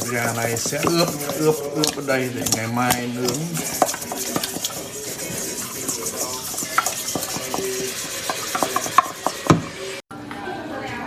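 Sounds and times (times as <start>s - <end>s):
wet stirring of chicken: 0.0s - 10.0s.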